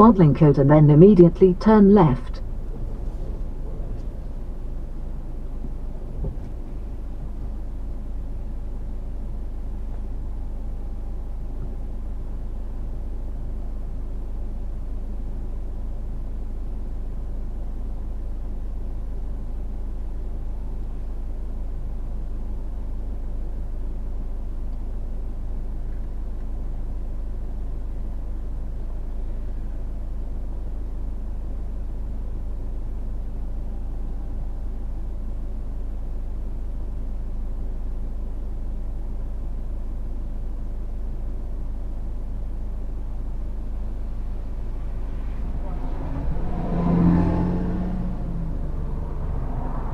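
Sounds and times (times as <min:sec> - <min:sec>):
car interior road rumble: 0:00.0 - 0:23.7, 0:24.4 - 0:49.9.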